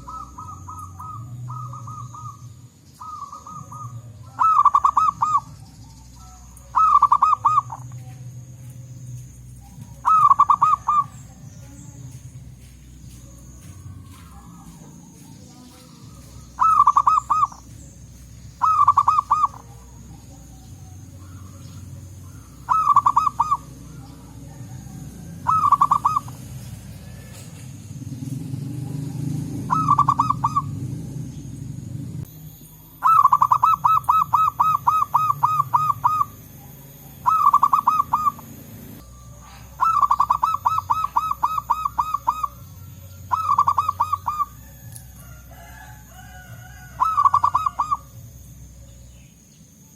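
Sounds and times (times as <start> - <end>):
zebra doves cooing: 0.0 - 12.0, 13.0 - 32.3, 32.9 - 49.9.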